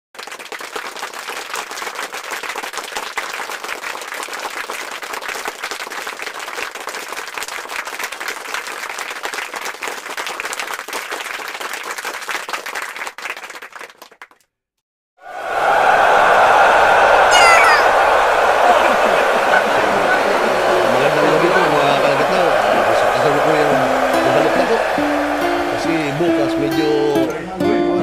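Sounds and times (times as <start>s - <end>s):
crowd applauding: 0.2s - 14.4s, 15.2s - 27.6s.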